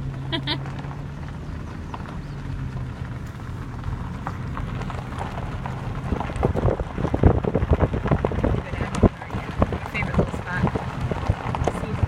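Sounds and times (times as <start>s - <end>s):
car engine hum: 0.0s - 12.0s
tyres crackling: 0.0s - 12.0s.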